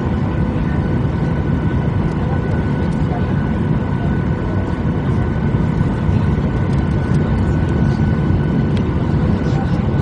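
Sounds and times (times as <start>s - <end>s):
jet engines humming in cabin: 0.0s - 10.0s.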